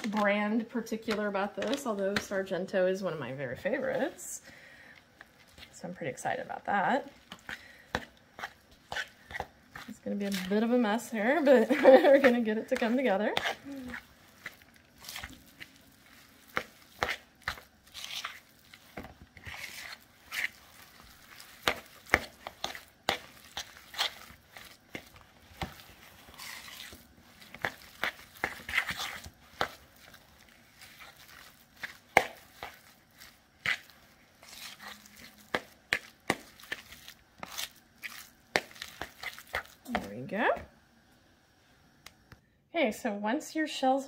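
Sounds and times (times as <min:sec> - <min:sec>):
stuffing scraping and mashing: 0:00.0 - 0:04.3, 0:05.0 - 0:40.2.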